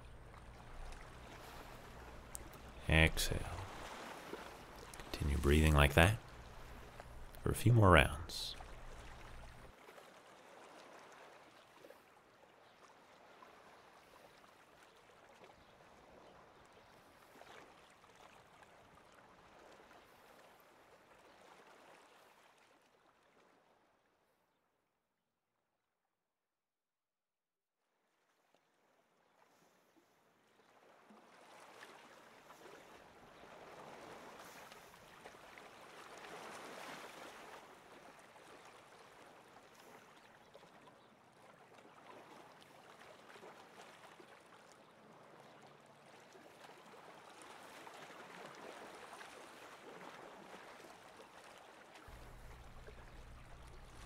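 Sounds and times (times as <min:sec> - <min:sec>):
small waves lapping: 0:00.0 - 0:02.8, 0:03.5 - 0:05.1, 0:08.6 - 0:23.8, 0:28.2 - 0:54.0.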